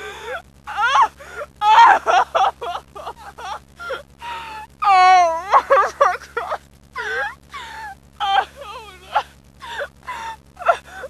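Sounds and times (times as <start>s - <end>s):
woman singing wailing: 0.7s - 11.0s.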